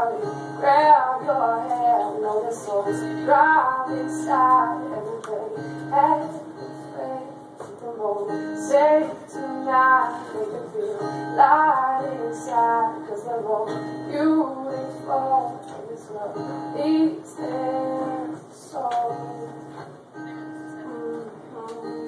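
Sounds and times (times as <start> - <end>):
acoustic guitar strumming: 0.0 - 22.0
woman singing: 0.0 - 22.0.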